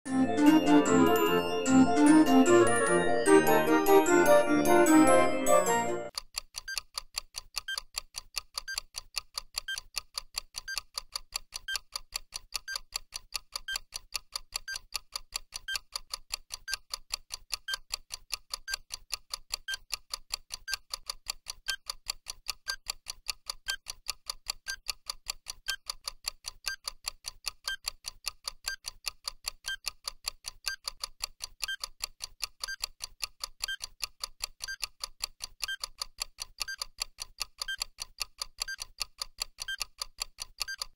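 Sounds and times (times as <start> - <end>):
clock ticking: 0.3 - 40.9.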